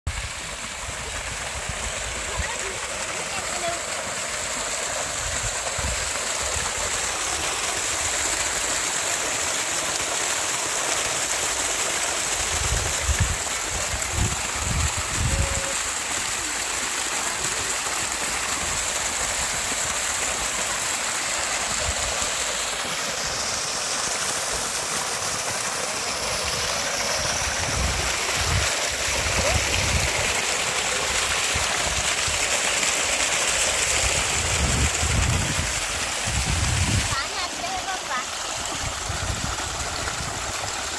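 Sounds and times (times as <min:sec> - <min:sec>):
water gushing from a pipe: 0:00.1 - 0:40.9
water splashing onto stone: 0:01.5 - 0:40.9.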